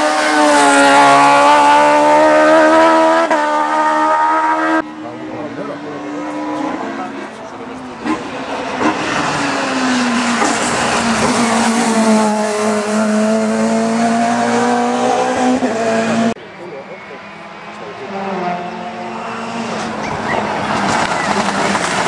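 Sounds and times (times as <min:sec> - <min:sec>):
race car engine at high revs: 0:00.0 - 0:22.0.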